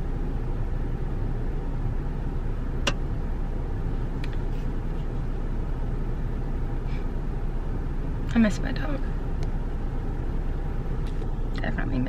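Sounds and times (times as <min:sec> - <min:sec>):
air conditioning running: 0:00.0 - 0:12.0.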